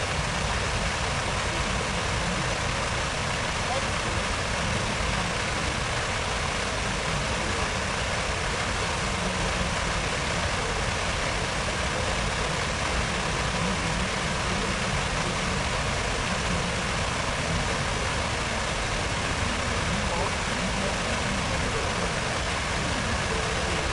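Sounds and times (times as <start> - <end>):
fountain water splashing: 0.0 - 23.9.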